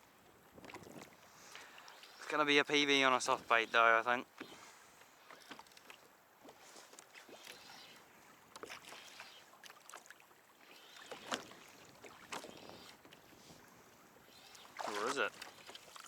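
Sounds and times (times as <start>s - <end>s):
faint water noise: 0.0s - 16.0s.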